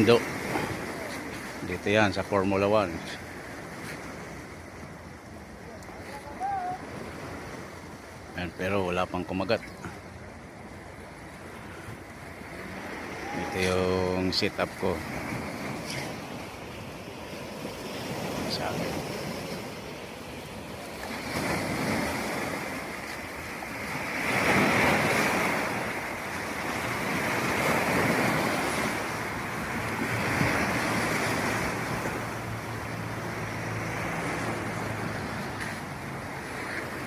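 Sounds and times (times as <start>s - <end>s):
sea waves washing in: 0.0s - 37.0s.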